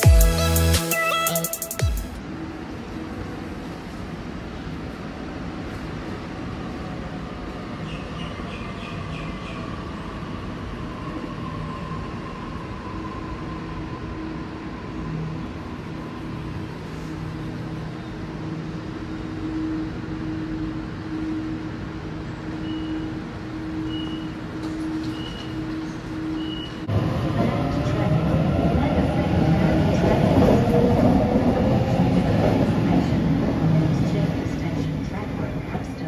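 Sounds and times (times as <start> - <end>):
electric train rumble and hum: 2.0 - 36.0.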